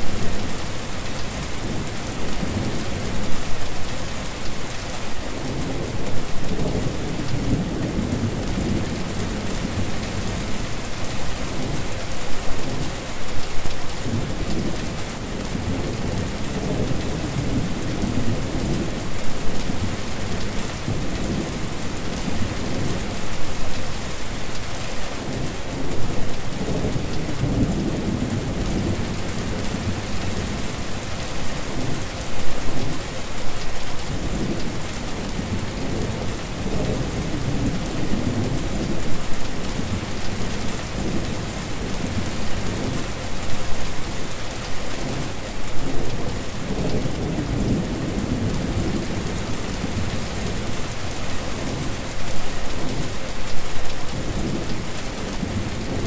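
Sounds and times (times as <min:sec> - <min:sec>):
rain splashing on wet surface: 0:00.0 - 0:56.0.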